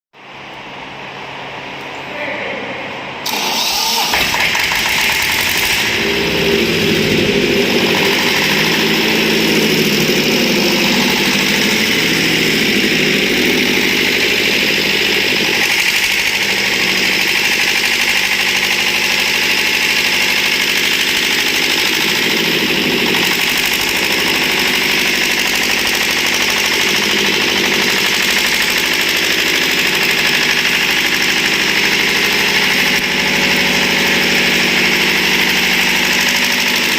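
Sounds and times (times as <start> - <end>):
diesel generator engine running: 3.0 - 36.9.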